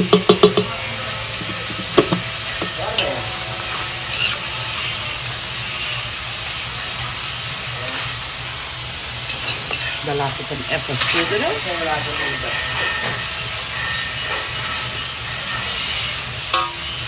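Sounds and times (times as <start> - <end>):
metal spoon stirring in a pan: 0.0 - 17.0
vegetables sizzling in a wok: 0.0 - 17.0.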